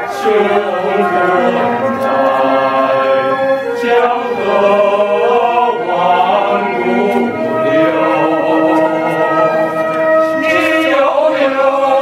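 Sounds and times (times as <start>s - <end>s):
men's chorus singing in harmony: 0.0s - 12.0s.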